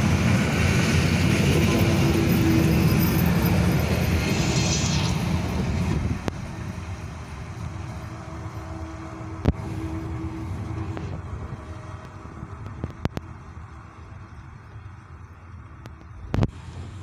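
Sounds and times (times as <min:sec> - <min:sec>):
train coaches rumbling over rails: 0:00.0 - 0:17.0.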